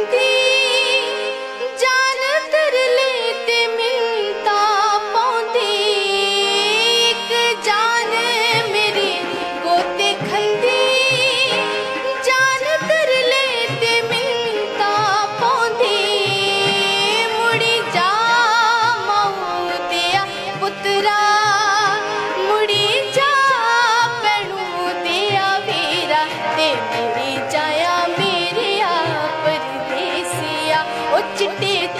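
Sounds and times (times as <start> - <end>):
harmonium: 0.0 - 31.9
woman singing folk song: 0.0 - 31.9.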